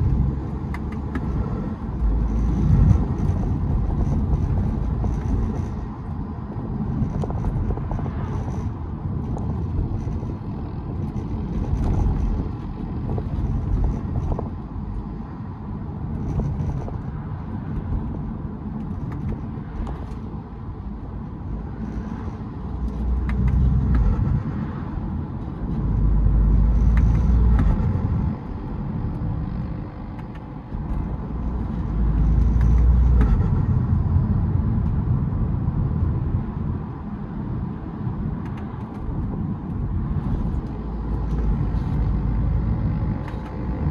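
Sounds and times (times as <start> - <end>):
diesel car engine rumble: 0.0 - 43.9
road noise: 0.0 - 43.9.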